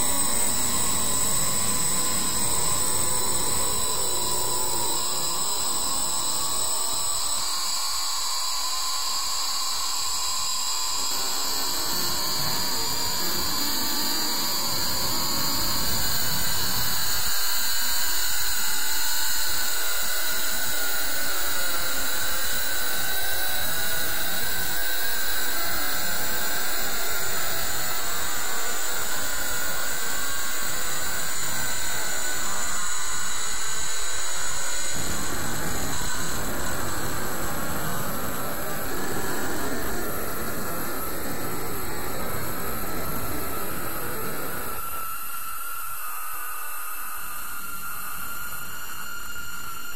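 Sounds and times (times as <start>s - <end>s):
loud hissing drone: 0.0s - 8.0s, 10.6s - 46.5s.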